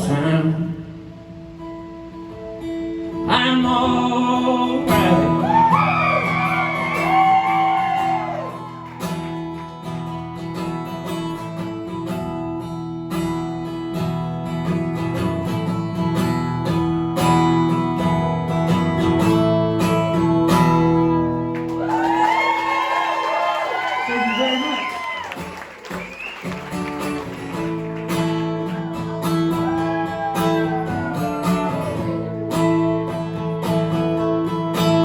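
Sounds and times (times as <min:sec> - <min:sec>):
acoustic guitar strumming: 0:00.0 - 0:21.7, 0:25.4 - 0:35.0.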